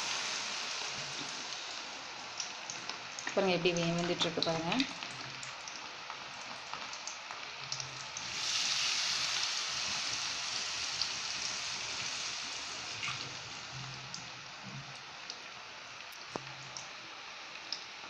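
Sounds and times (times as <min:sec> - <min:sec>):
batter deep-frying in hot oil: 0:00.0 - 0:18.0.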